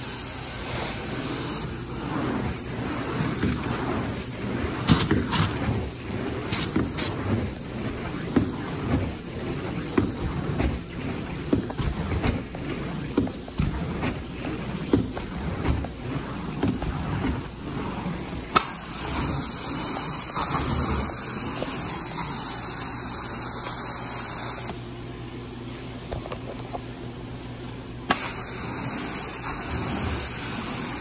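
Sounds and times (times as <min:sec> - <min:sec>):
carpet cleaning machine running: 0:00.0 - 0:24.7, 0:28.0 - 0:31.0.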